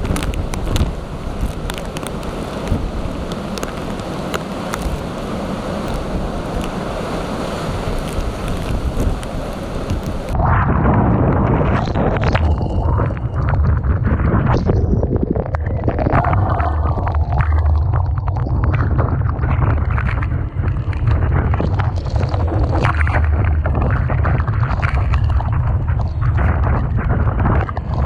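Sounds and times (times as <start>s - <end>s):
storm waves crashing: 0.0s - 28.0s
wind buffeting microphone: 0.0s - 28.0s.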